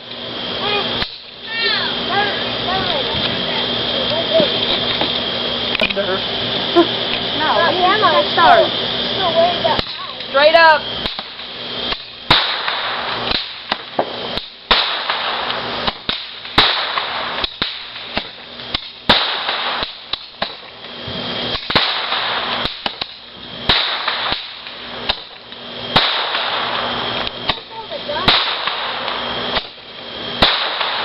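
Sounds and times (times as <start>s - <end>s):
firework cracks and bangs: 0.0s - 5.3s, 6.8s - 31.0s
fireworks hissing crackle: 0.0s - 31.0s.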